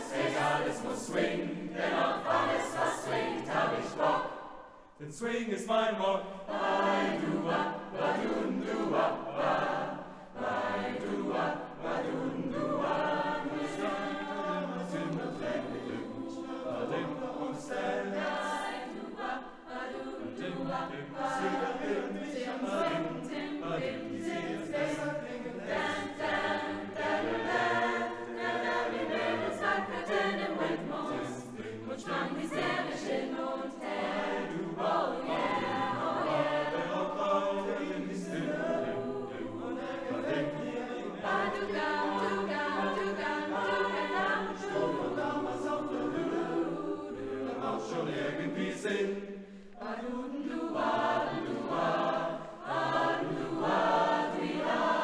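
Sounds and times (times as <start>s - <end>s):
choir singing in harmony: 0.0s - 55.0s.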